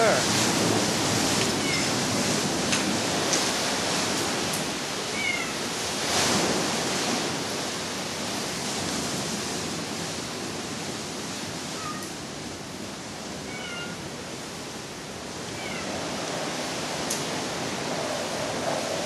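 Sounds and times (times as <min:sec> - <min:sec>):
strong storm wind: 0:00.0 - 0:19.0.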